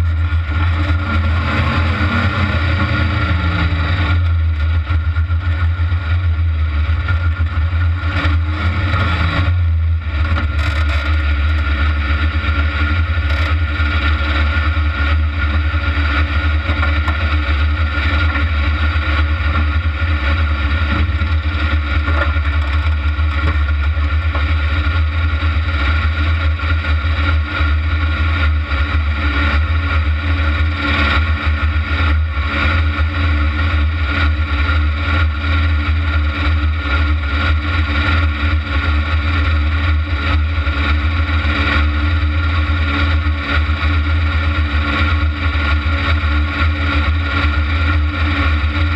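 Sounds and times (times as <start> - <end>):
buggy engine running at low revs: 0.0 - 48.9.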